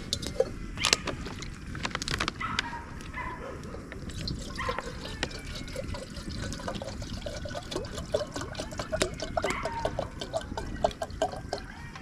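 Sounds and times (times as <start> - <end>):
water dripping and trickling: 0.0 - 2.3, 4.0 - 12.0.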